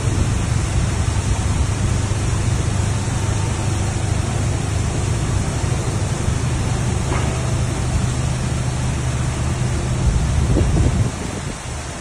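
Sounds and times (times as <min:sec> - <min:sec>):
low machine hum: 0:00.0 - 0:12.0
spraying water and turning brushes: 0:00.0 - 0:12.0.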